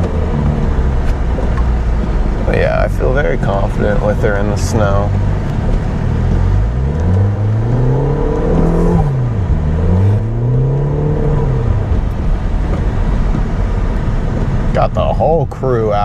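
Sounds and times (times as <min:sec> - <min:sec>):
car engine revving: 0:00.0 - 0:16.0
road and tyre noise: 0:00.0 - 0:16.0.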